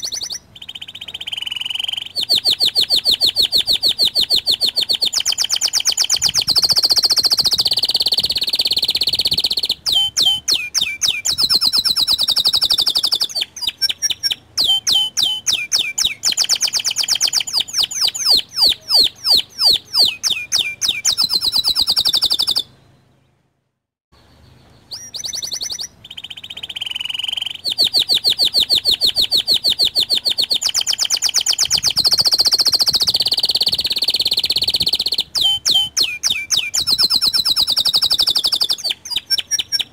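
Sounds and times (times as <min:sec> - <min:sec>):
canary singing trills: 0:00.0 - 0:23.1, 0:24.2 - 0:39.9.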